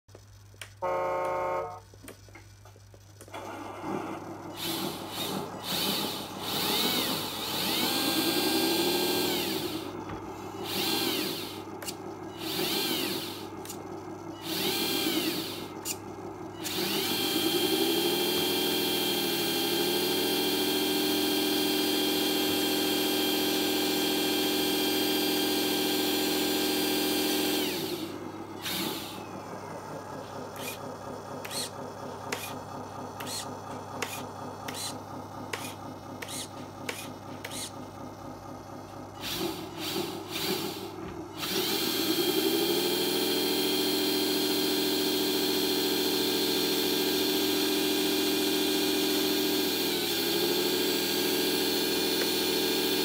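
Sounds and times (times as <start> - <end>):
electric motor and gears whining: 0.1 - 53.0.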